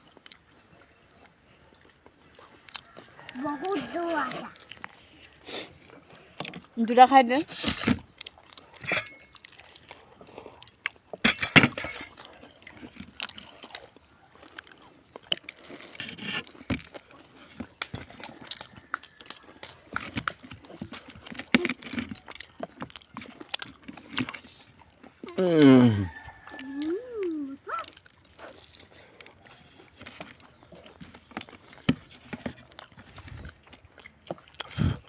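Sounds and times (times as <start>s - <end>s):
person crunching crisp snacks: 0.0s - 11.2s, 11.8s - 35.0s.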